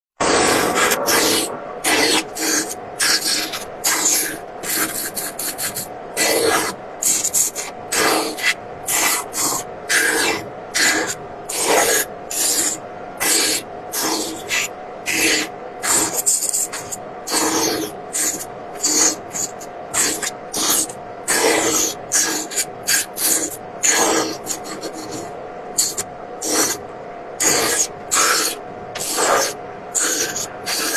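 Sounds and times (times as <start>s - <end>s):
faint steady hum: 0.2s - 30.9s.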